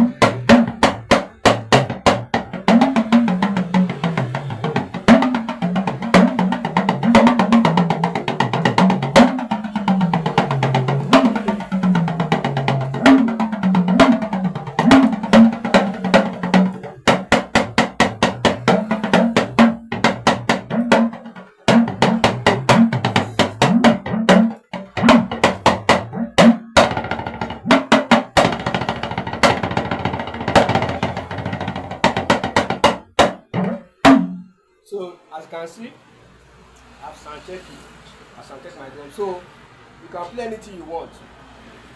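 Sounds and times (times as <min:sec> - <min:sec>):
talking drum strokes: 0:00.0 - 0:34.5.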